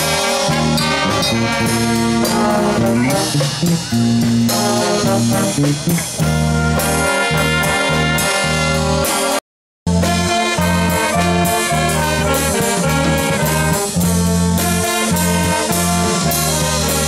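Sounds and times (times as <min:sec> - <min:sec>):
brass band playing swing jazz: 0:00.0 - 0:17.0.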